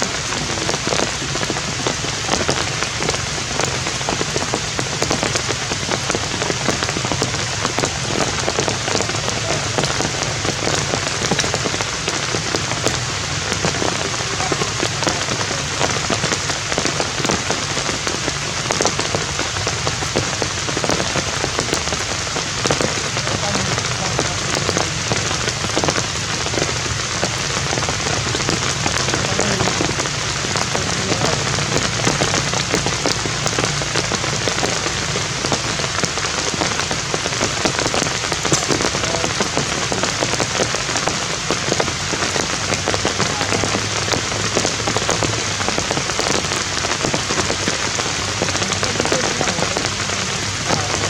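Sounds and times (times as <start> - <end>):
rain falling steadily: 0.0 - 51.0.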